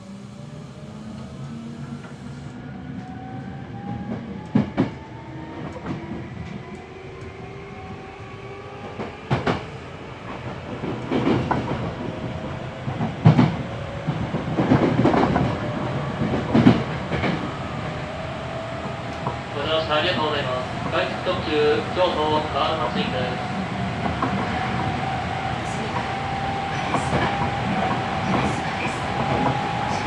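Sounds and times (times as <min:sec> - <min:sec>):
electric train running: 0:00.0 - 0:30.0.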